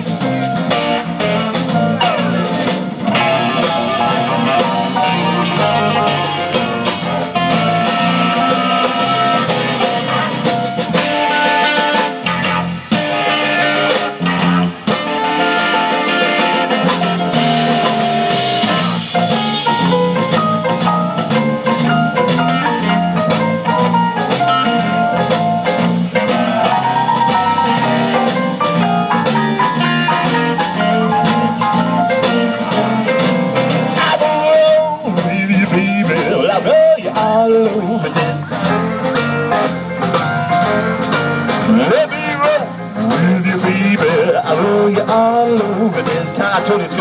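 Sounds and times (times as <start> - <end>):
drum kit: 0.0 - 47.0
electric bass: 0.0 - 47.0
electric guitar: 0.0 - 47.0
keyboard: 0.0 - 47.0.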